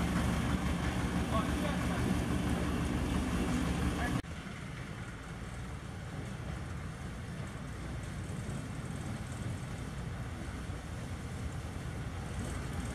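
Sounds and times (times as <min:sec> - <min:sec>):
diesel locomotive engine running: 0:00.0 - 0:12.9.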